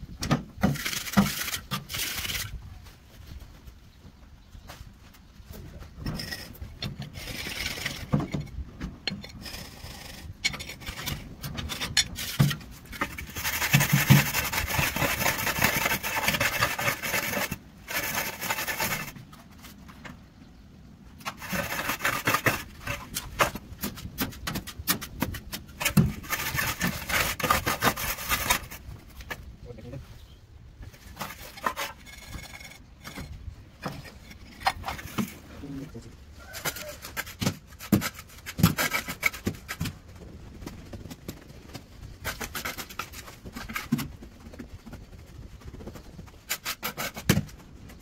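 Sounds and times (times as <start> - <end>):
scraping on a hard surface: 0.6 - 3.6, 5.5 - 20.0, 21.2 - 48.0.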